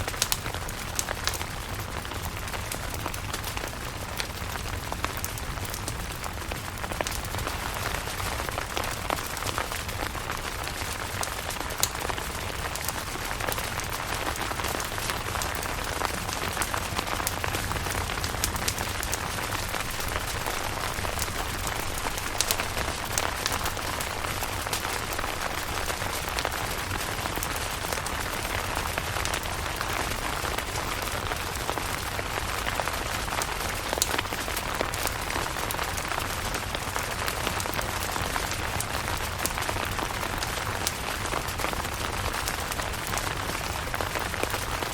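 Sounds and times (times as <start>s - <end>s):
rain on a tent: 0.0s - 44.9s.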